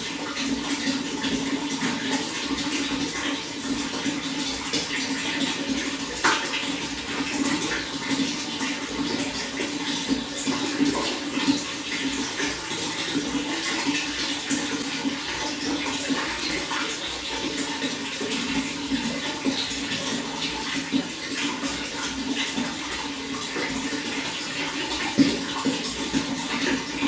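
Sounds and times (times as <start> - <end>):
running water splashing: 0.0 - 27.0.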